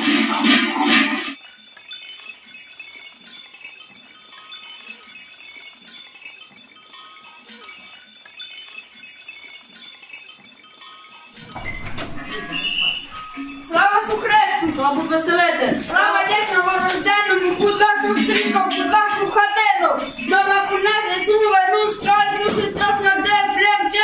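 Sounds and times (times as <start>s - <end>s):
small metal bells jingling: 1.3s - 24.0s.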